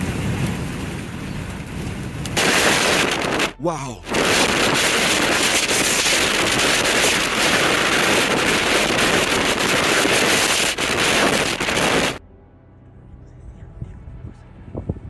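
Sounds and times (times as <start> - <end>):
strong wind roaring: 0.0 - 12.2.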